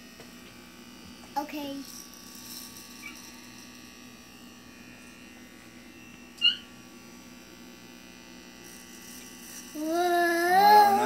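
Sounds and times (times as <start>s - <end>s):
electric hair clippers buzzing: 0.0s - 11.0s.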